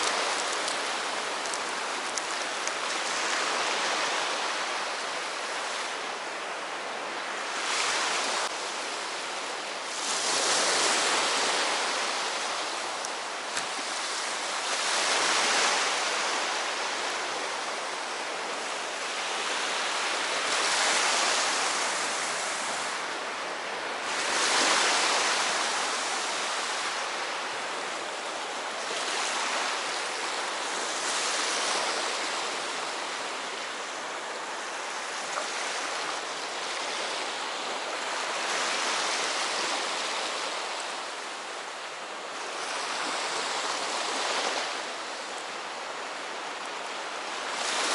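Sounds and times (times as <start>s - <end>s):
sea waves breaking on shore: 0.0s - 47.9s.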